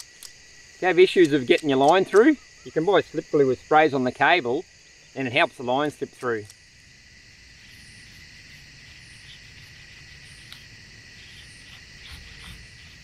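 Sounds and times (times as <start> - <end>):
high insect chirps: 0.0 - 13.0
insects trilling: 0.0 - 13.0.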